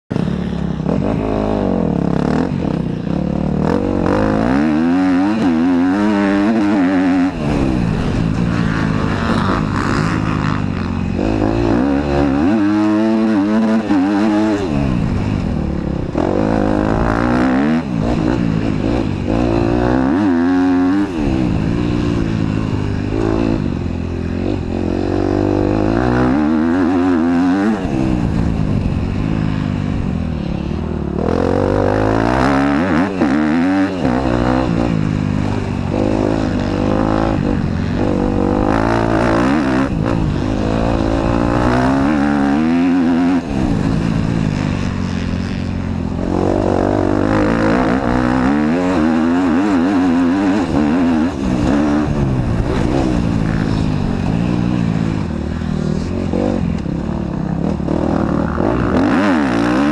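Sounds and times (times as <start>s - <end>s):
motocross bike engine revving: 0.1s - 59.9s.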